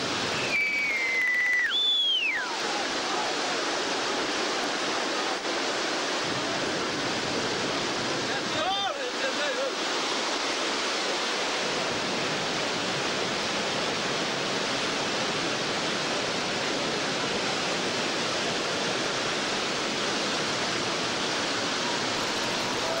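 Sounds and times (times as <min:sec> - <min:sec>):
river rapids rushing: 0:00.0 - 0:23.0.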